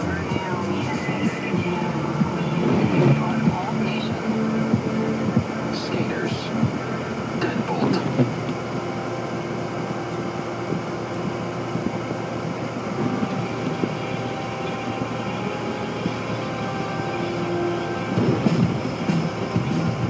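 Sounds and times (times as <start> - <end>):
car cabin road and engine noise: 0.0 - 20.0.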